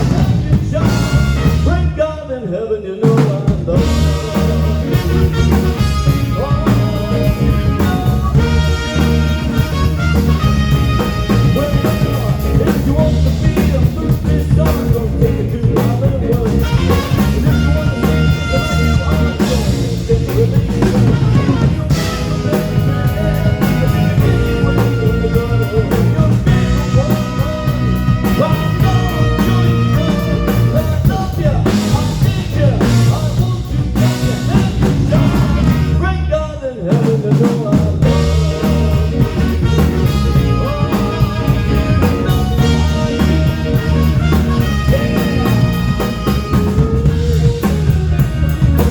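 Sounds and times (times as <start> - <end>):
loud rock music with singing: 0.0 - 48.9.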